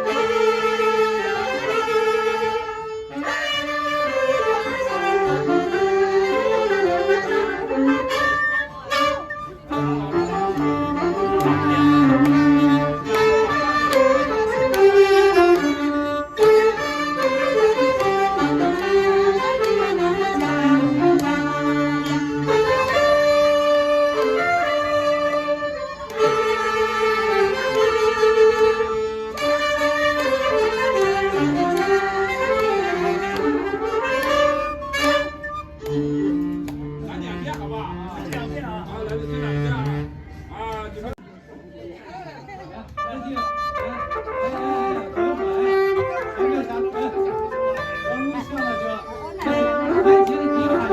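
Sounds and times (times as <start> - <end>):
ensemble playing instrumental tune: 0.0 - 41.8, 42.6 - 50.9.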